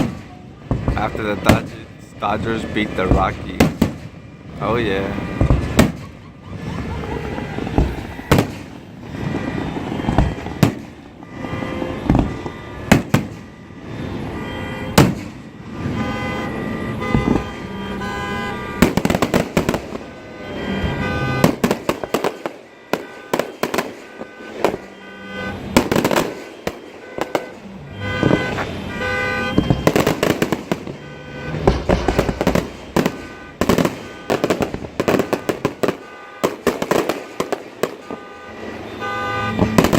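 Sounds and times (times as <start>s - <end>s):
fireworks booming and cracking: 0.0s - 39.9s.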